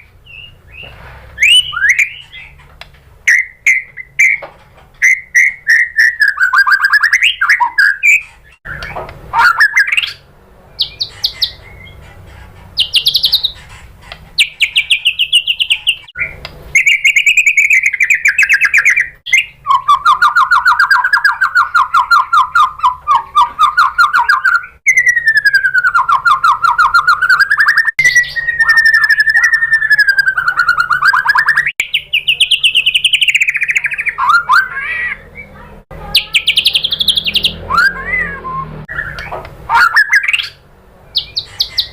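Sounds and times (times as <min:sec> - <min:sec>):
bird singing trilled phrases: 0:00.0 - 0:41.9.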